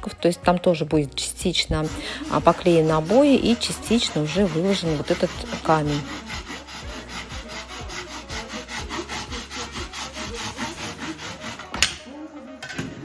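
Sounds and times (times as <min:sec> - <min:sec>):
hand tool rasping stone: 0:01.2 - 0:12.1.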